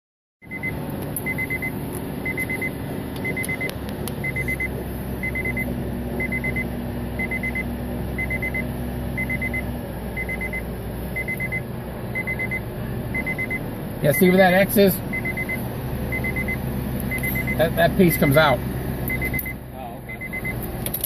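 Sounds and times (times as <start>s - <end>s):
electronic warning beeps: 0.4s - 14.5s, 15.1s - 18.3s, 19.1s - 20.6s
engine rumble: 0.4s - 21.0s.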